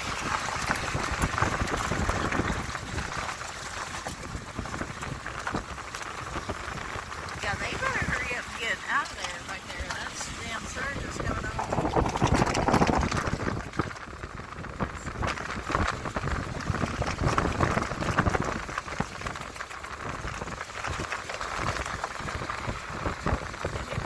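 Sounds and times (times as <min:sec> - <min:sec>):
rain: 0:00.0 - 0:24.0
wind: 0:00.0 - 0:24.0.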